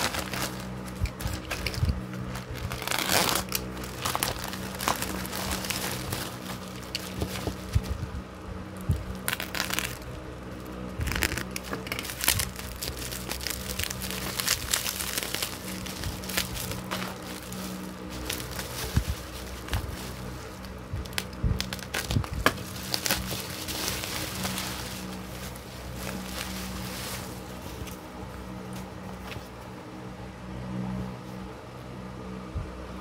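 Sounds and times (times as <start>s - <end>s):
plastic packaging crinkling: 0.0s - 28.0s
steady low hum: 0.0s - 33.0s.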